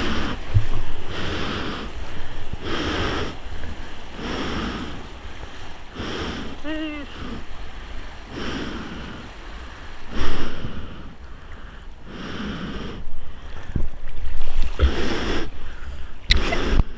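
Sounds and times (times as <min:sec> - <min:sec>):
shallow whitewater sloshing: 0:00.0 - 0:16.9
wind buffeting microphone: 0:00.0 - 0:16.9.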